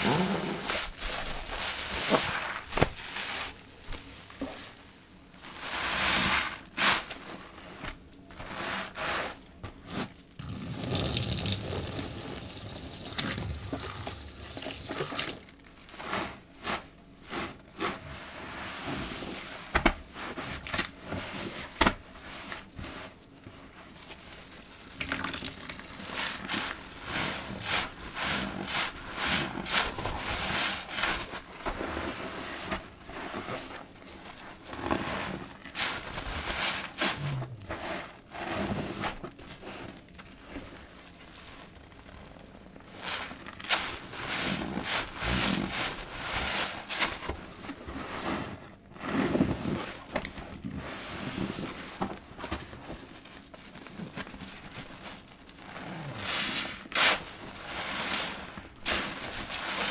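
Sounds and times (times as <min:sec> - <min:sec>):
sponge squelching in soapy water: 0:00.0 - 0:59.9.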